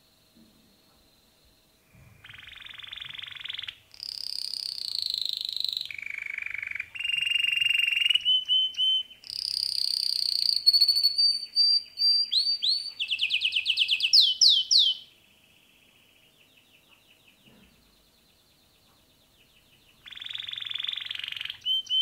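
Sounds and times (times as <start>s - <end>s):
canary singing trills: 2.2s - 22.0s.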